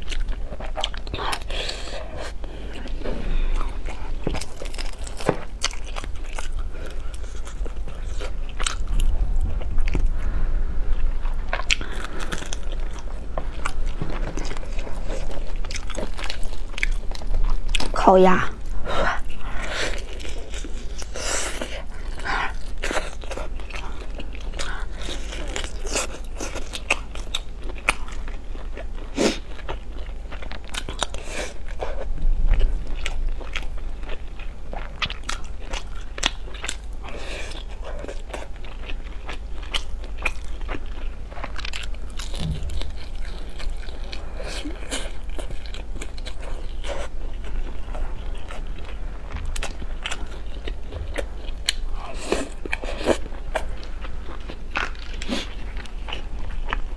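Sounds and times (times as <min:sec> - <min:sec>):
wet chewing and smacking: 0:00.0 - 0:10.2, 0:10.9 - 0:18.0, 0:18.6 - 0:56.9
steady low hum: 0:00.0 - 0:56.9.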